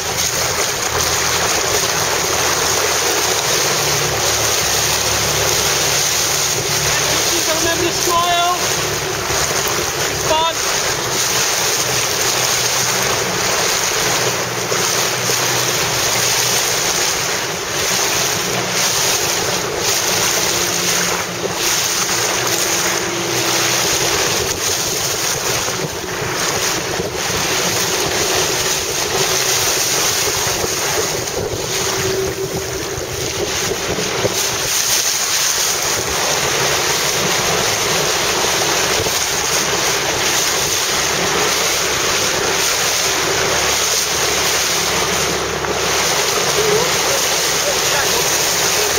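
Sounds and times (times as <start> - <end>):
choppy sea waves splashing: 0.0 - 48.9
wind buffeting microphone: 0.0 - 48.9.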